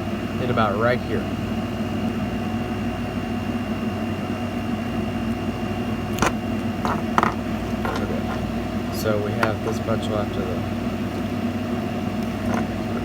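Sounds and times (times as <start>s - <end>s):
fan humming with faint whine: 0.0s - 13.0s.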